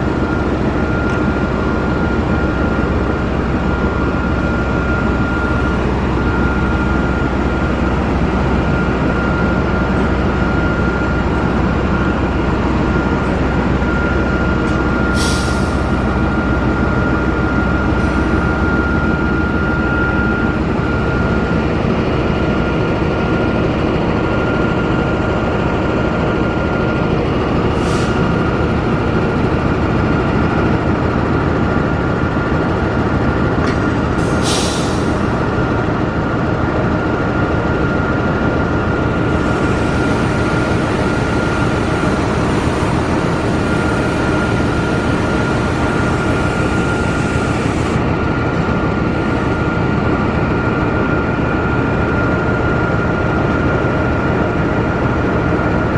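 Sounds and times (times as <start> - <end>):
constant high whine: 0.0 - 55.9
locomotive diesel engine running: 0.0 - 55.9.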